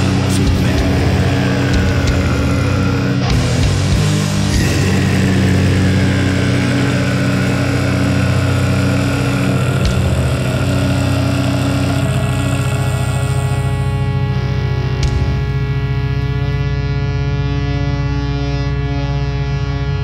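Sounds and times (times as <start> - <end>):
distorted low guitar drone: 0.0 - 20.0.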